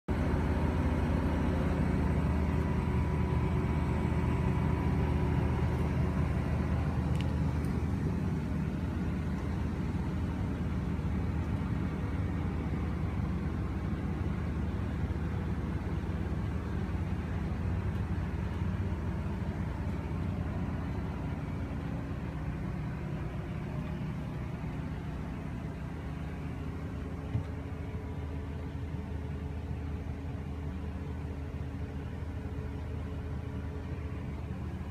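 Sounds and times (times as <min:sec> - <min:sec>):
low machine hum: 0:00.1 - 0:34.9.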